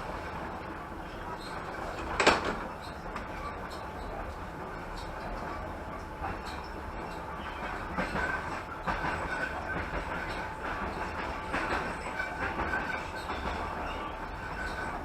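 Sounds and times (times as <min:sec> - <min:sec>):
train wheels rumbling on track: 0:00.0 - 0:15.0
wheels clacking over rail joints: 0:01.4 - 0:05.5, 0:06.2 - 0:15.0.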